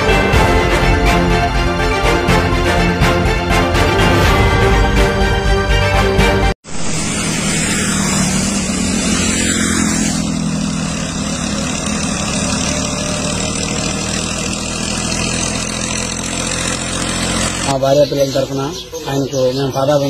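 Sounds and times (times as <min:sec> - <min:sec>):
tractor diesel engine running: 0:00.0 - 0:05.3, 0:06.7 - 0:19.4.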